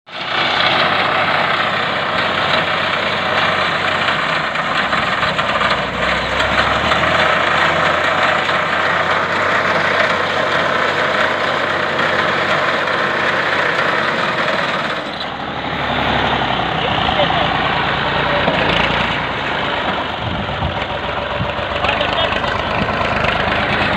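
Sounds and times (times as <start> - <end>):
tractor and reaper running: 0.1 - 23.9.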